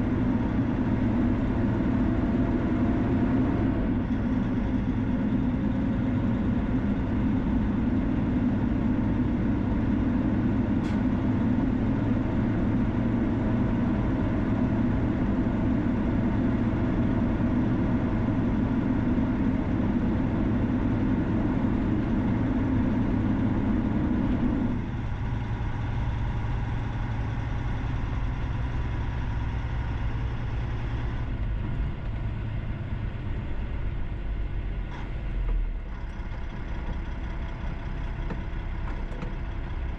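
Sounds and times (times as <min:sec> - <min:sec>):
vehicle road and engine noise: 0:00.0 - 0:39.9.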